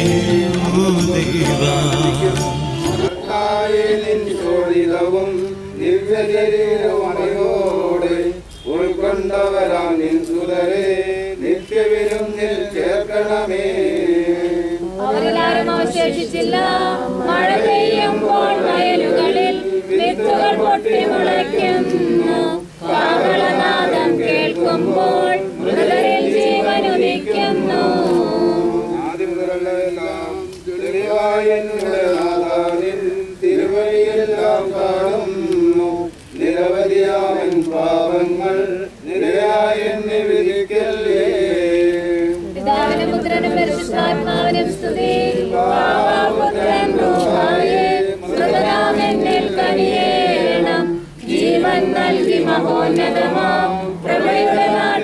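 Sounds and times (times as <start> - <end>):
group singing a hymn: 0.0 - 55.0.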